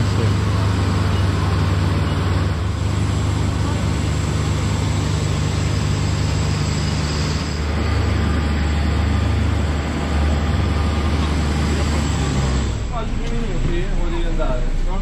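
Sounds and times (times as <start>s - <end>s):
engines droning: 0.0s - 15.0s.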